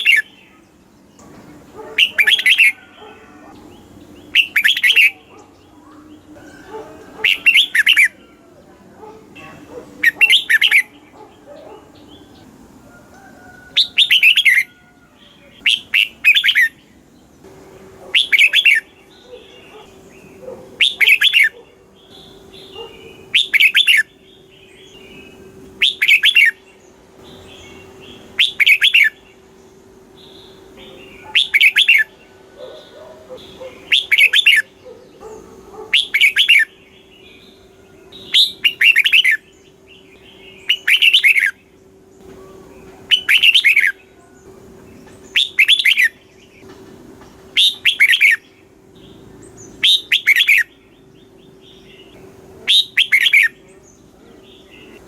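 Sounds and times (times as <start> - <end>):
bird singing warbling phrases: 0.0 - 46.7, 47.4 - 55.0.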